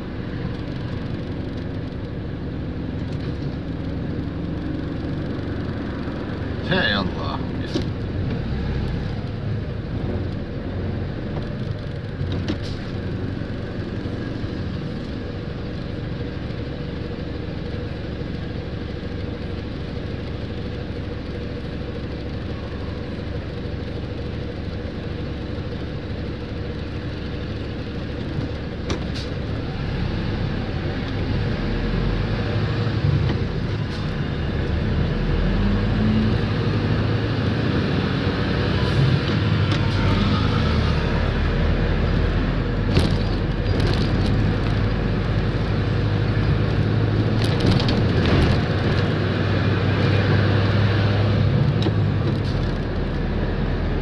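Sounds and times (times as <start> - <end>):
road noise: 0.0 - 54.0
vehicle engine: 0.0 - 54.0.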